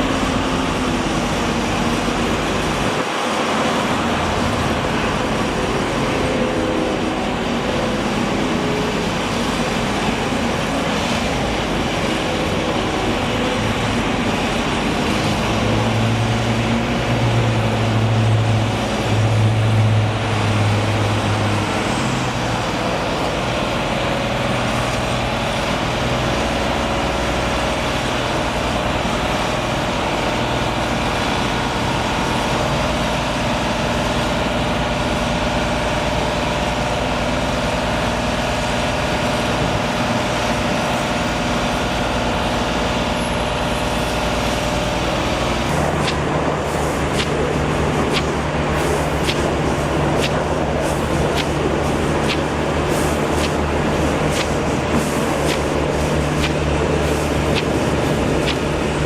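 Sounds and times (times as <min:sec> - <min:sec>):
low engine drone: 0:00.0 - 0:59.0
motor traffic: 0:00.0 - 0:59.0.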